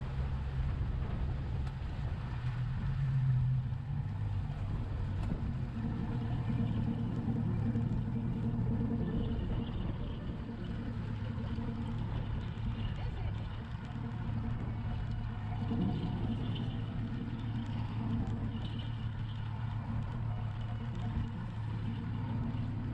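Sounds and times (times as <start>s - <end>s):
motorboat engine drone: 0.0s - 22.9s.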